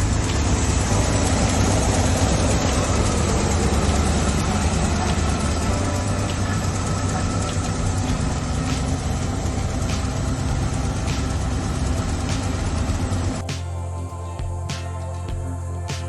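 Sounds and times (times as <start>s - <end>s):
vehicle engine running: 0.0s - 15.8s
music: 0.0s - 16.0s.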